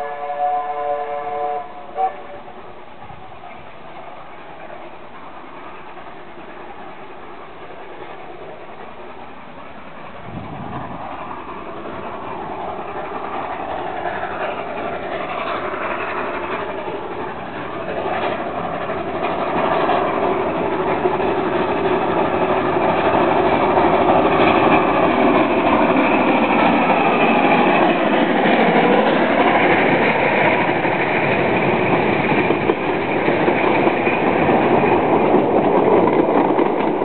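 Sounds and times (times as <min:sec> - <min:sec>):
steam locomotive exhausts: 0:00.0 - 0:37.0.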